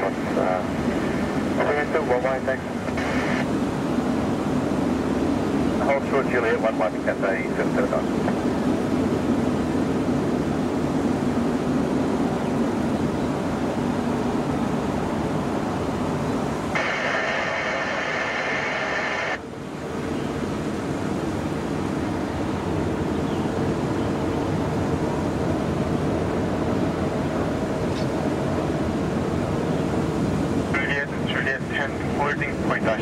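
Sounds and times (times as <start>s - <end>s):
distant jet engines rumbling: 0.0s - 33.0s.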